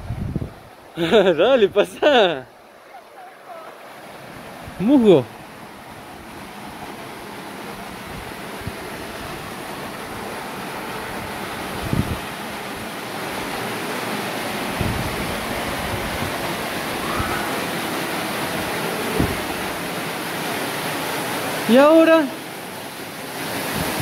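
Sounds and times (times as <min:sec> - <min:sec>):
waterfall rushing: 0:00.4 - 0:24.0.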